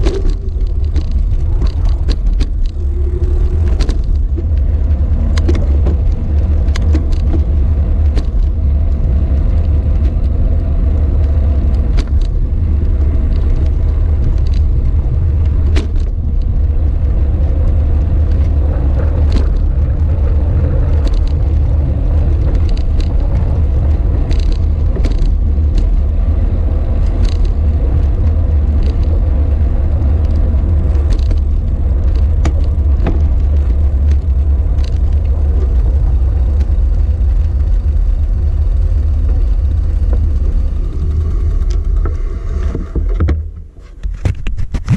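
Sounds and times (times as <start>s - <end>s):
sharp clicks and ticks: 0.0s - 43.4s
bicycle tyre noise on asphalt: 0.0s - 44.9s
wind rumble on microphone: 0.0s - 44.9s.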